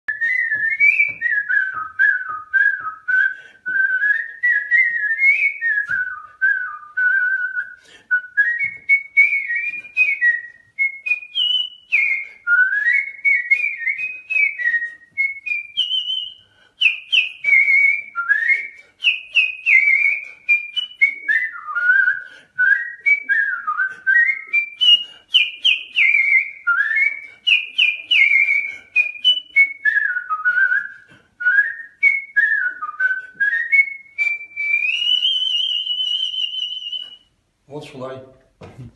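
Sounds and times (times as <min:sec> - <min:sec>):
person whistling a tune: 0:00.1 - 0:37.4.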